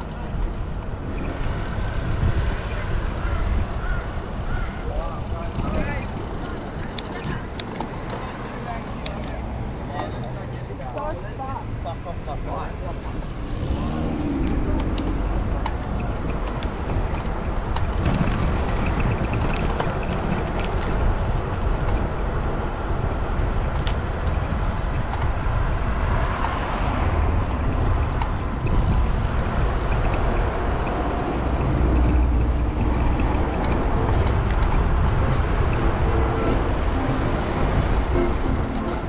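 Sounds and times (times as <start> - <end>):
low wind rumble: 0.0 - 9.9, 11.1 - 39.0
street traffic: 0.0 - 39.0.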